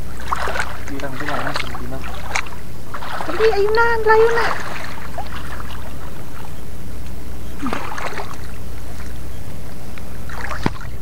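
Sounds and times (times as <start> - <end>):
sea water sloshing and splashing: 0.0 - 11.0
steady low rumble: 0.0 - 11.0.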